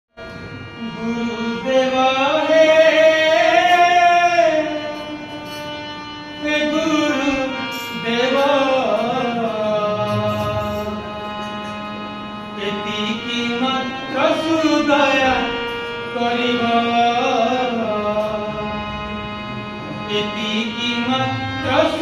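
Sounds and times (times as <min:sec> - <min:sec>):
harmonium drone: 0:00.1 - 0:22.0.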